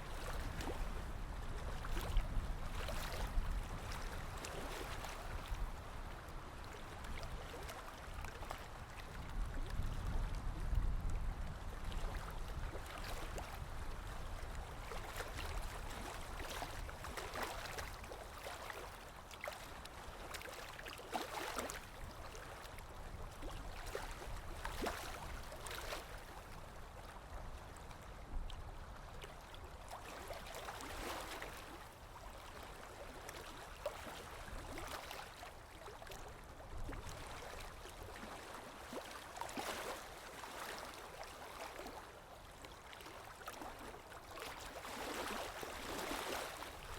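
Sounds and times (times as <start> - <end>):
small waves lapping: 0.0 - 46.9.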